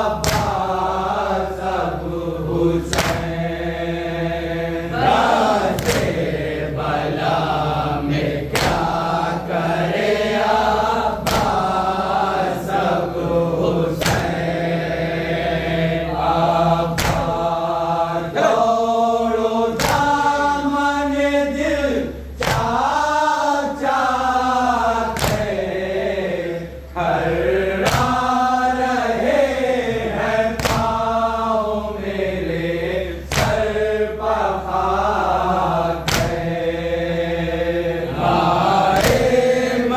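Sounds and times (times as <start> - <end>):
men chanting in unison: 0.0 - 39.9.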